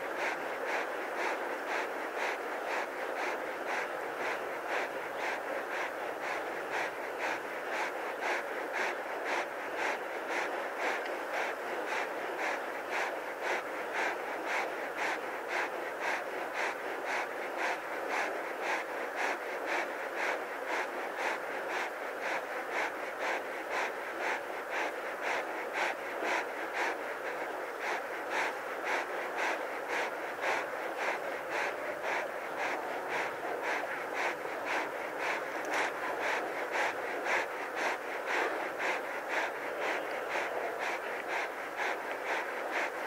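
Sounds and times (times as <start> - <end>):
lion panting: 0.0 - 43.0.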